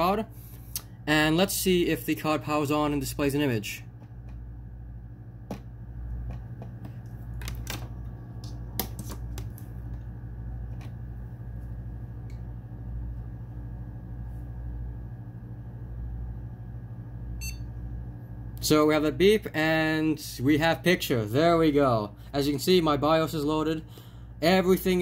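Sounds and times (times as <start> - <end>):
computer low hum: 0.0 - 25.0.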